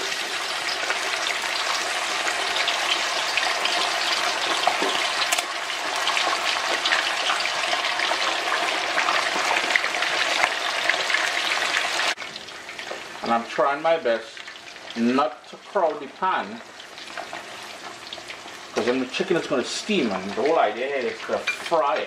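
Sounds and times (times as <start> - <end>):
oil crackling and sizzling: 0.0 - 22.0.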